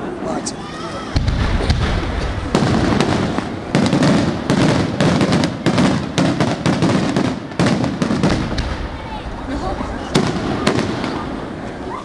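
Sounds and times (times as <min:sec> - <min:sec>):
continuous low rumble: 0:00.0 - 0:12.0
fireworks bangs: 0:01.1 - 0:12.0.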